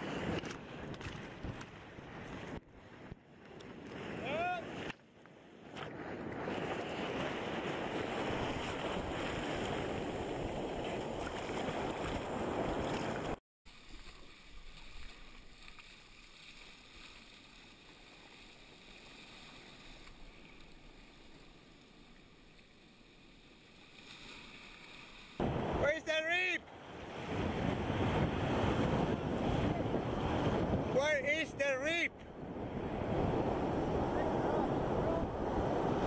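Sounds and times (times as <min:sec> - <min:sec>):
whitewater rushing around kayak: 0:00.0 - 0:05.0, 0:05.6 - 0:36.0.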